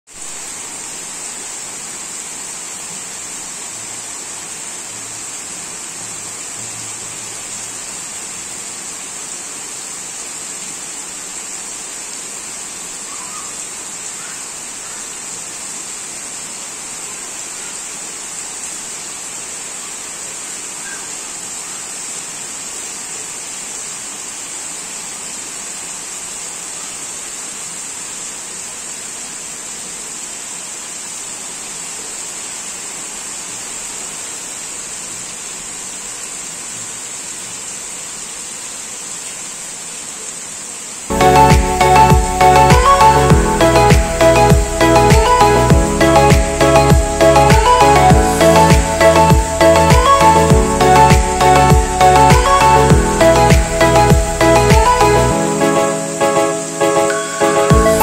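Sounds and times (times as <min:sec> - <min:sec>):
heavy rain pouring: 0:00.1 - 0:58.0.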